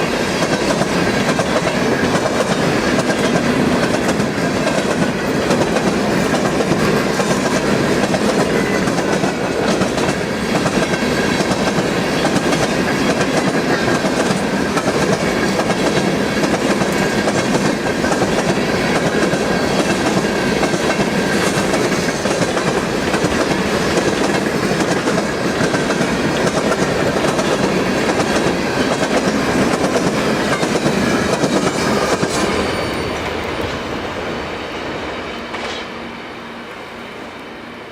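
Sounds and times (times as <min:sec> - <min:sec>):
freight train cars rolling past: 0:00.0 - 0:37.9.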